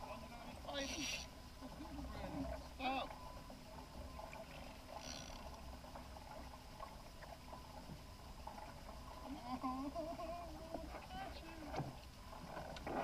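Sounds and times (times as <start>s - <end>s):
water lapping against hull: 0.0s - 13.0s.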